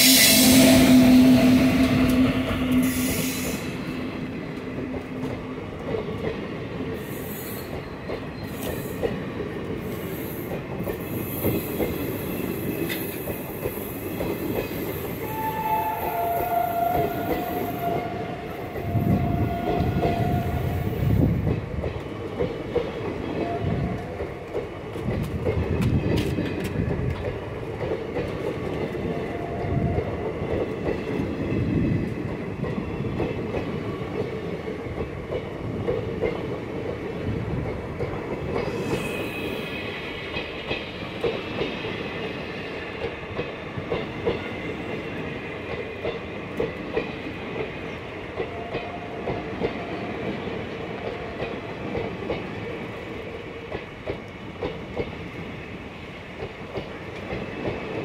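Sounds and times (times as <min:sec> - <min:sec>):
train wheels rumbling: 0:00.0 - 0:58.0
clickety-clack over rail joints: 0:01.8 - 0:39.1, 0:40.2 - 0:58.0.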